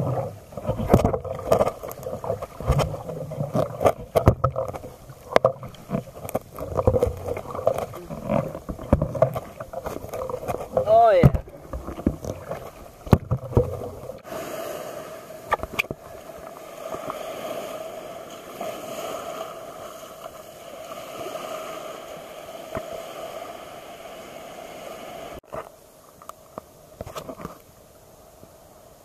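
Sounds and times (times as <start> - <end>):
small waves on sandy beach: 0.0 - 26.1
water sloshing against kayak: 0.0 - 27.9.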